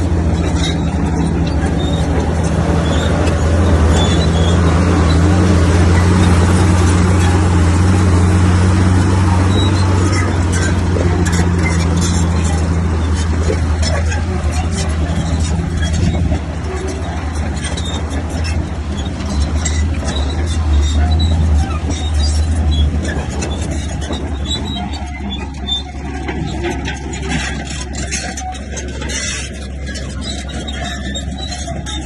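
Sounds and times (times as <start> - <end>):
bulldozer diesel engine rumbling: 0.0 - 32.0
metal clanking: 0.0 - 32.0.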